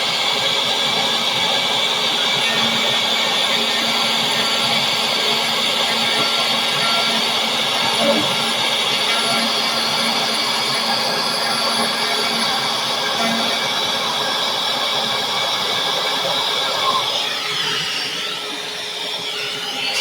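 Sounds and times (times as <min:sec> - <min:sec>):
key cutting machine whine: 0:00.0 - 0:20.0
vacuum running: 0:00.0 - 0:20.0.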